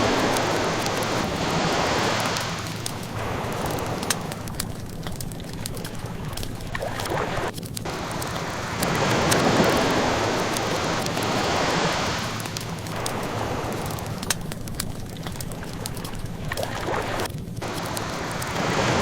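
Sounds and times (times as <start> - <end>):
ocean waves washing ashore: 0.0 - 19.0
wood fire crackling: 0.0 - 19.0.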